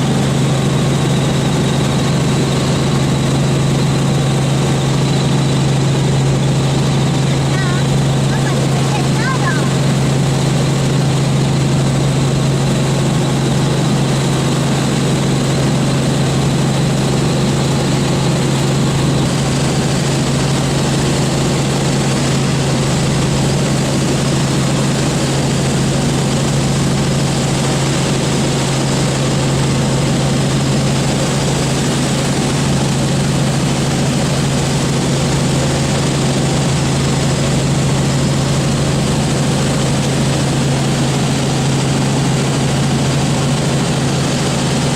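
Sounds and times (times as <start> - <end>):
helicopter engine and rotors: 0.0 - 44.9.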